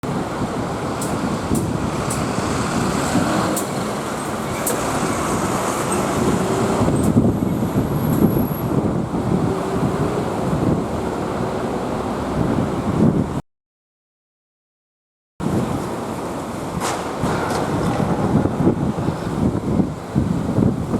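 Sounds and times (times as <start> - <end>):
road traffic passing: 0.0 - 13.4, 15.4 - 20.9.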